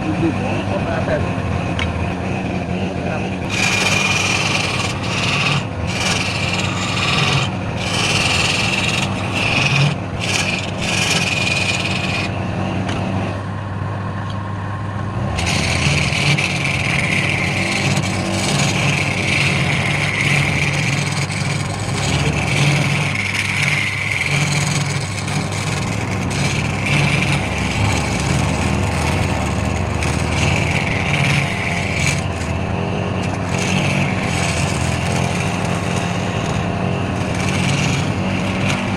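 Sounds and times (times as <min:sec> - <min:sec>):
tool scraping spinning wood: 0:00.0 - 0:12.4, 0:15.2 - 0:38.9
lathe motor running: 0:00.0 - 0:13.8, 0:14.5 - 0:38.9.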